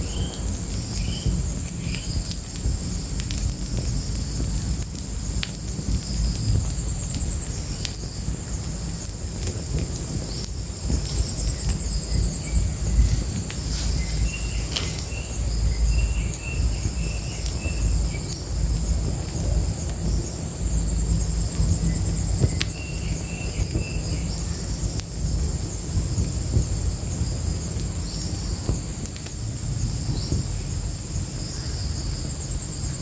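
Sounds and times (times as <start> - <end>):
low rumble: 0.0 - 32.9
fire crackling and popping: 0.0 - 33.0
insects trilling: 0.0 - 33.0.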